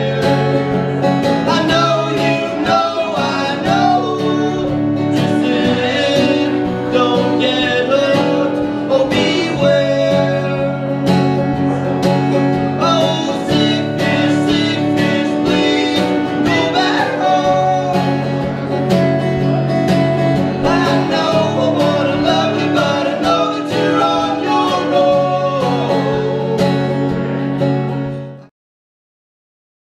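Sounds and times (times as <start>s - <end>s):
person singing: 0.0s - 19.2s, 20.2s - 27.3s
plucked strings: 0.0s - 28.4s
acoustic guitar: 0.0s - 28.5s.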